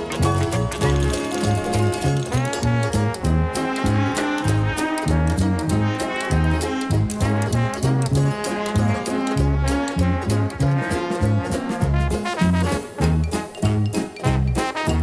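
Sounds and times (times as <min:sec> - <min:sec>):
upbeat brass background music: 0:00.0 - 0:15.0.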